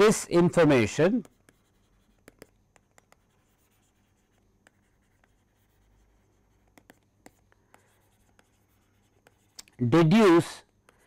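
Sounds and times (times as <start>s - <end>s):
stylus tapping and scratching tablet: 0.0s - 11.0s.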